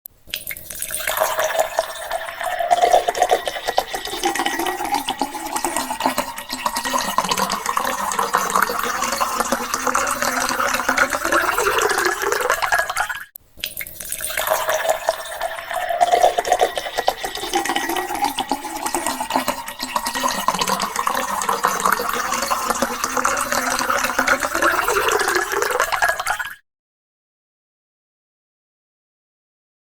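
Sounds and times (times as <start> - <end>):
water pouring into a glass: 0.3 - 26.6.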